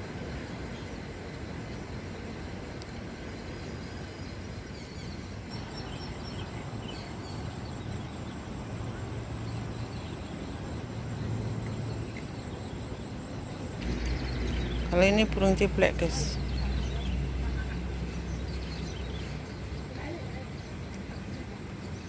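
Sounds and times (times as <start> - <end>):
low outdoor rumble: 0.0 - 22.0
small birds chirping: 3.4 - 22.0.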